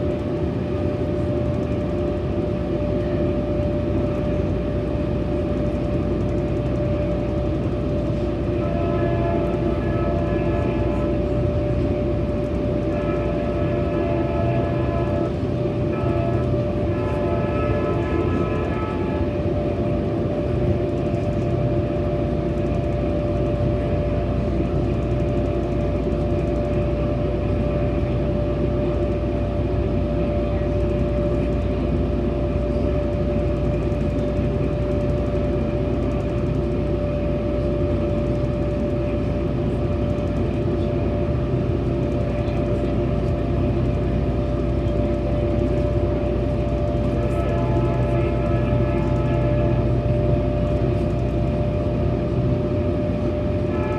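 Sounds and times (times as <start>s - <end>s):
constant hum: 0.0s - 53.9s
train wheels rumbling on rail: 0.0s - 53.9s.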